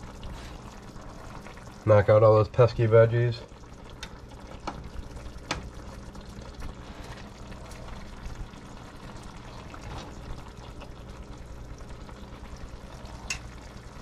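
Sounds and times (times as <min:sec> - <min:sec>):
sauce bubbling in a skillet: 0:00.0 - 0:14.0.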